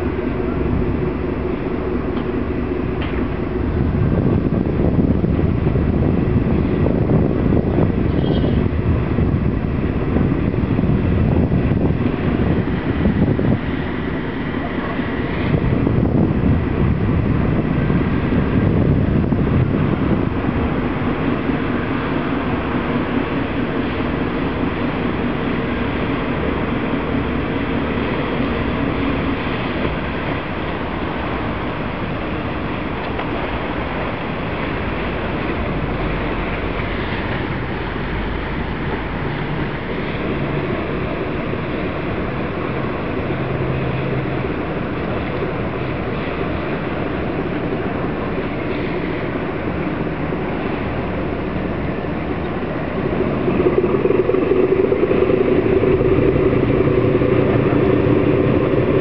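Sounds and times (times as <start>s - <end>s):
hum: 0.0s - 59.0s
low engine rumble: 0.0s - 59.0s
noisy wash: 0.0s - 59.0s
wind on microphone: 0.0s - 59.0s.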